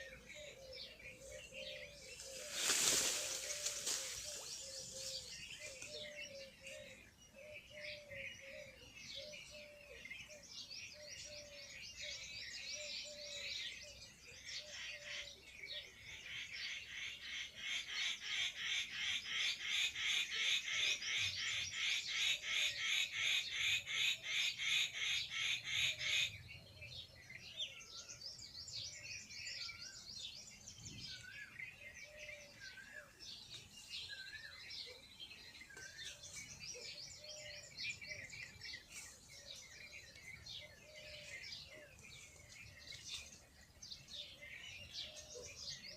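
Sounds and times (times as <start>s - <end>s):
birds chirping and twittering: 0.0s - 45.9s.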